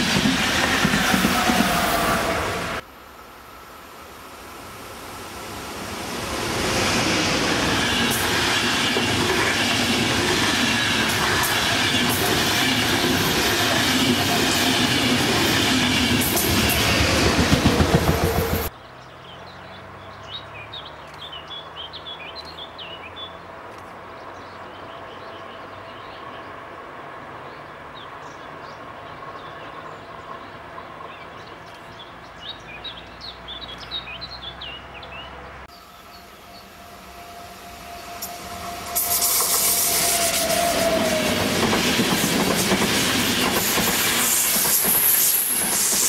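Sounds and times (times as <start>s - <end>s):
distant train hum: 0.0s - 18.7s, 23.4s - 46.0s
train passing at speed: 0.0s - 18.8s, 23.1s - 46.0s.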